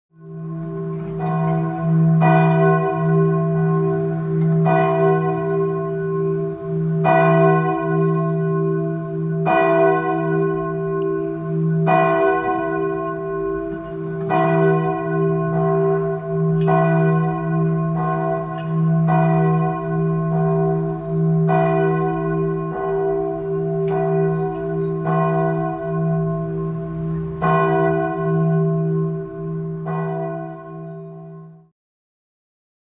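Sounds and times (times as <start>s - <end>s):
church bells ringing: 0.2s - 31.7s.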